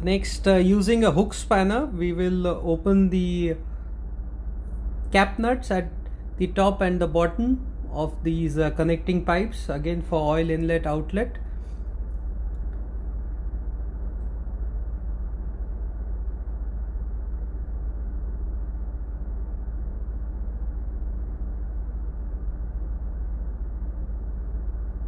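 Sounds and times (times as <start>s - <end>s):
engine-room machinery hum: 0.0s - 25.0s.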